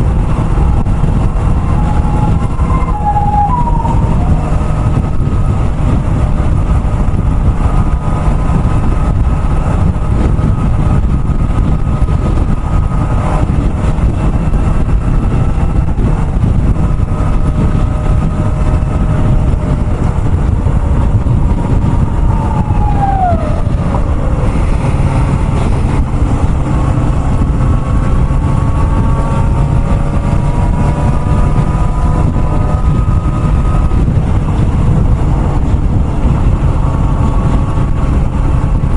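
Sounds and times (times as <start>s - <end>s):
motorcycle engine running: 0.0s - 38.9s
wind rush over microphone: 0.0s - 38.9s.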